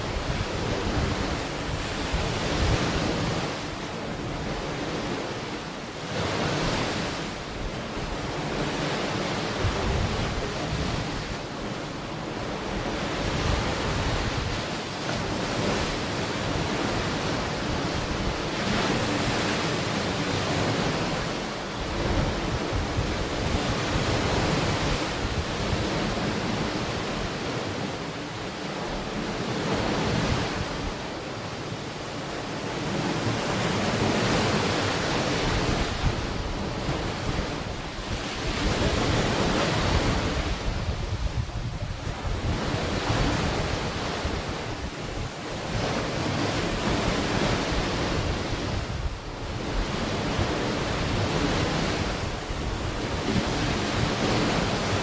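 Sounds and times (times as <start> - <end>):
wind buffeting microphone: 0.0 - 27.8, 32.7 - 55.0
ocean surf washing onto beach: 0.0 - 55.0.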